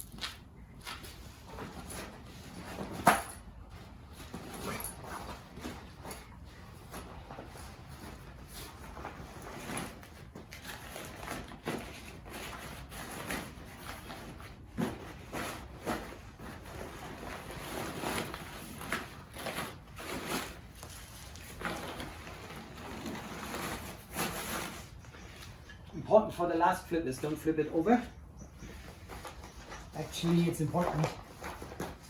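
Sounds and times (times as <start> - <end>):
sailcloth rustling and crinkling: 0.0 - 32.0.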